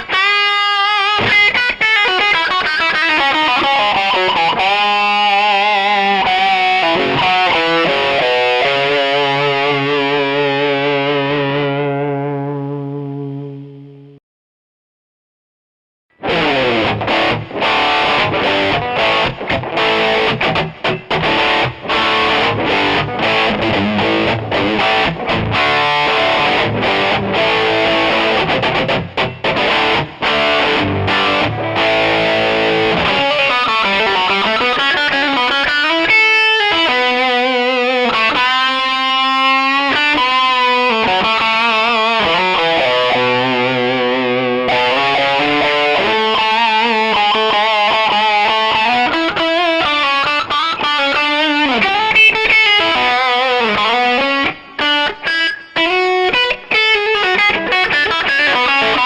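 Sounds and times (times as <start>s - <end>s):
distorted electric guitar: 0.0s - 14.2s, 16.1s - 59.0s.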